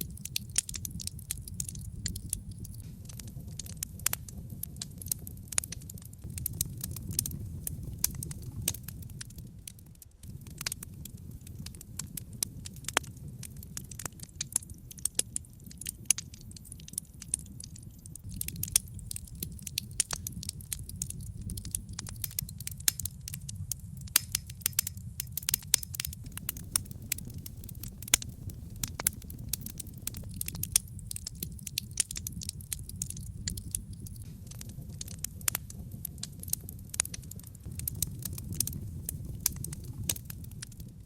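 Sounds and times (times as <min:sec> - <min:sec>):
logs crackling and popping: 0:00.0 - 0:41.0
low rumble of flames: 0:00.0 - 0:41.0.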